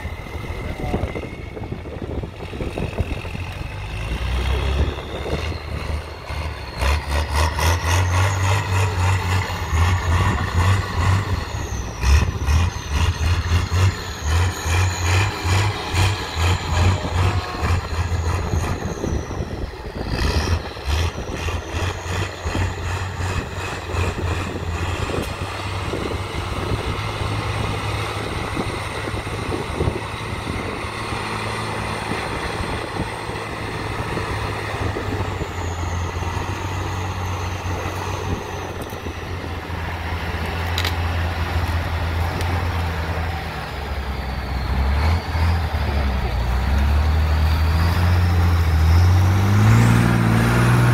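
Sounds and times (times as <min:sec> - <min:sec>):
high whine: 0:00.0 - 0:44.9
diesel engine revving in mud: 0:00.0 - 0:50.9.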